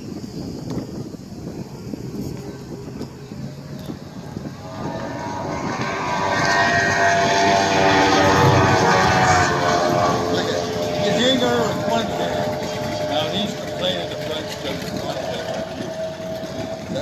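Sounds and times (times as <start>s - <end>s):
powerboat engine whine: 0.0s - 17.0s.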